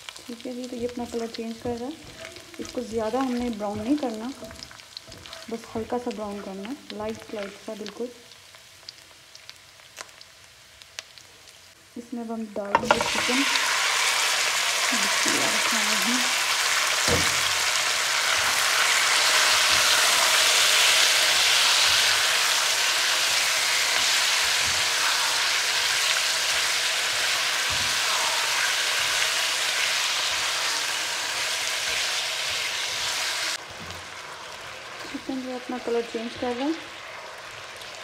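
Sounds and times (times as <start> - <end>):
chicken sizzling in a frying pan: 0.0 - 38.0.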